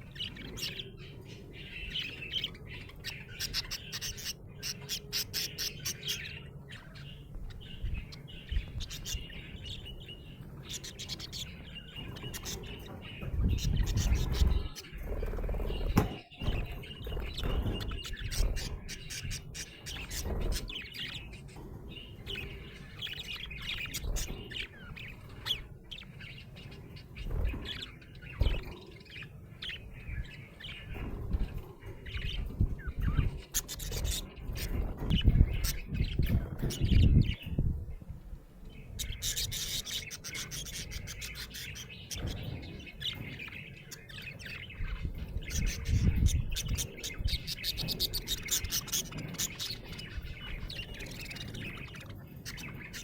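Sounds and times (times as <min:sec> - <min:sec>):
budgerigar chirping and chattering: 0:00.0 - 0:37.6, 0:38.8 - 0:53.0.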